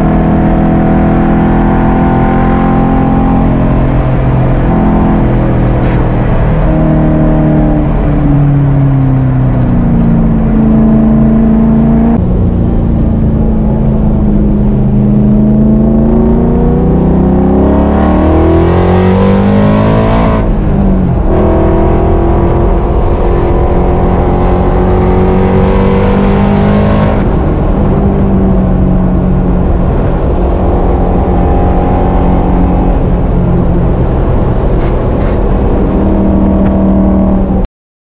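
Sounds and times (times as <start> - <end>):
car engine revving in-car: 0.0 - 37.7.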